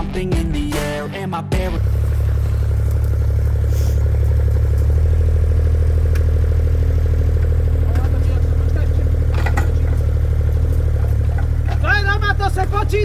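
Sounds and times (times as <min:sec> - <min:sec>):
diesel engine droning: 0:01.6 - 0:13.0.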